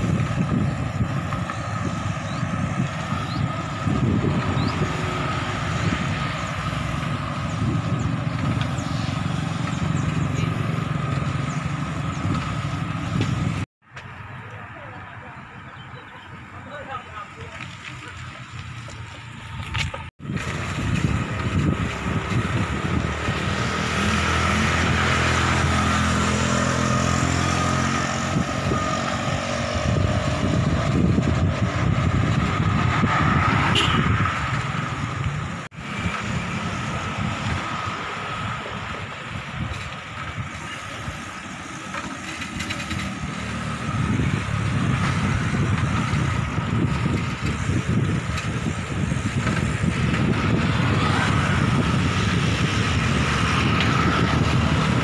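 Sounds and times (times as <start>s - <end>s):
wind noise: 0.0s - 13.7s, 18.6s - 55.0s
bicycle road noise on asphalt: 0.0s - 55.0s
vehicle engine: 0.0s - 55.0s.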